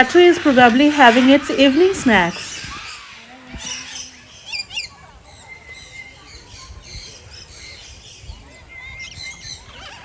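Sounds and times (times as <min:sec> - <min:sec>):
birds squawking and chirping: 0:00.0 - 0:10.0.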